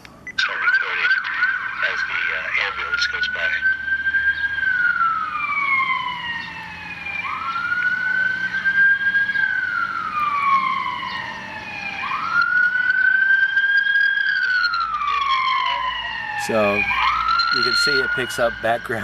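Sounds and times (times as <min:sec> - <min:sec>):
ambulance siren wailing: 0:00.3 - 0:19.0.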